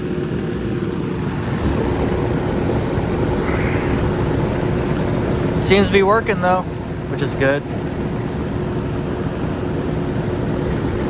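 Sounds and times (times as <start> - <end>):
air conditioner fan blowing: 0.0 - 11.0
steady hum: 0.0 - 11.0.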